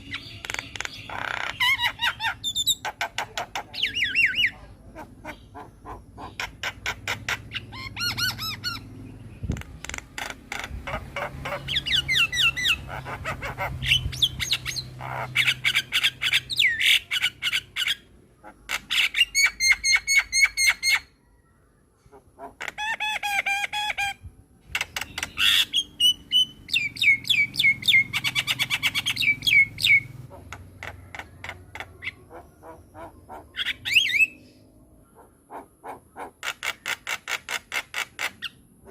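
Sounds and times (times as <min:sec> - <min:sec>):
myna bird singing: 0:00.0 - 0:38.9.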